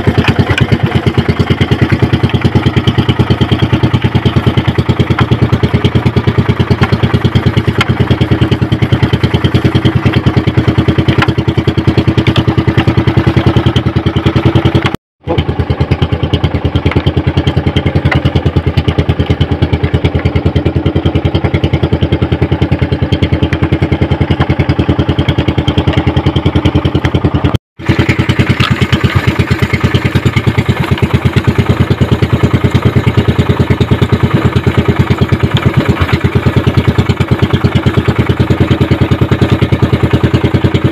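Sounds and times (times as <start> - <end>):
boat engine chugging: 0.0 - 40.9.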